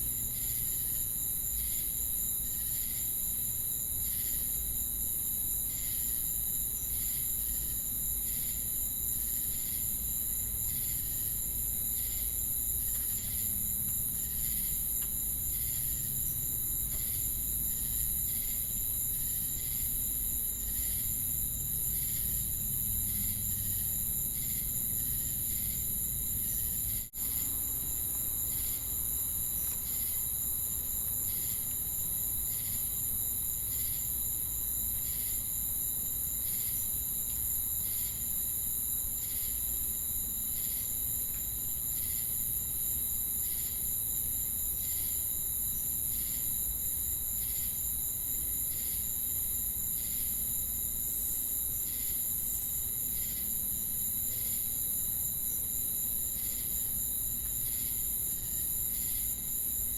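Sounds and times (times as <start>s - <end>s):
crickets and cicadas buzzing: 0.0s - 59.9s.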